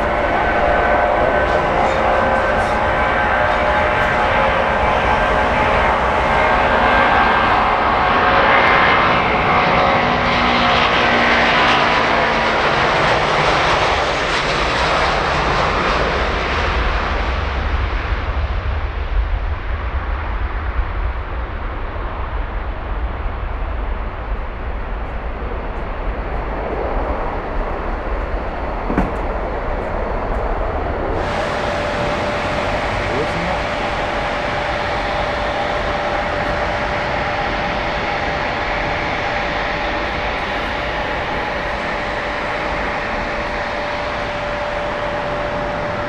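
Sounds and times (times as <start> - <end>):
jet airliner passing: 0.0 - 18.4, 23.8 - 46.0.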